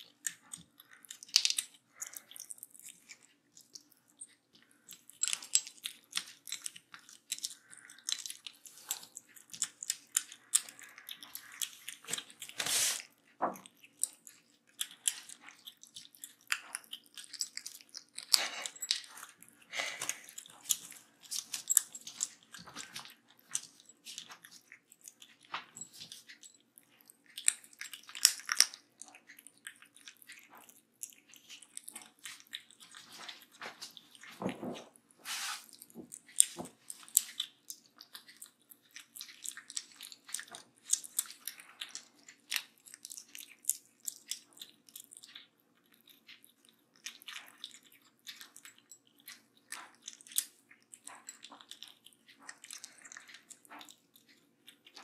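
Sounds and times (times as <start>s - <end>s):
kittens crunching dry kibble: 0.0s - 55.0s.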